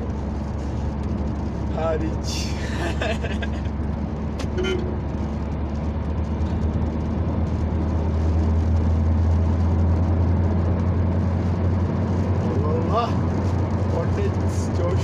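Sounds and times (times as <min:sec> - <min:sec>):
car engine drone: 0:00.0 - 0:15.0
tyres on wet road: 0:00.0 - 0:15.0.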